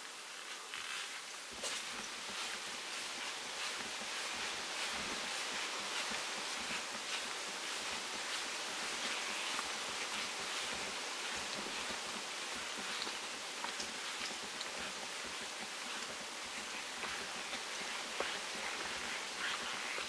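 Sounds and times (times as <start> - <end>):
continuous hiss: 0.0 - 20.0
rustling crackles: 0.0 - 20.0.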